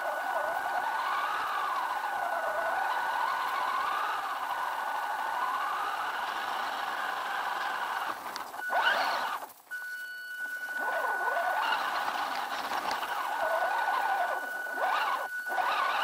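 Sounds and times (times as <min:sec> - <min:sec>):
rc car motor whining: 0:00.0 - 0:16.0
thin high whine: 0:00.0 - 0:16.0.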